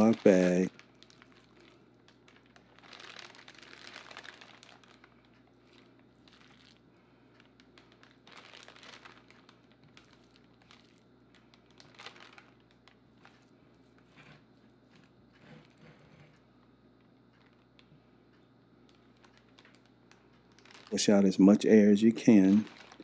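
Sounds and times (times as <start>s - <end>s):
plastic bag crinkling: 0.0s - 18.0s, 18.8s - 23.0s.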